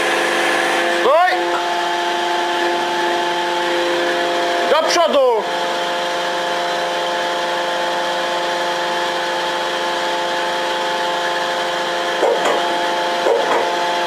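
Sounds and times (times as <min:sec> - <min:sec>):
tunnelling machine humming: 0:00.0 - 0:14.0.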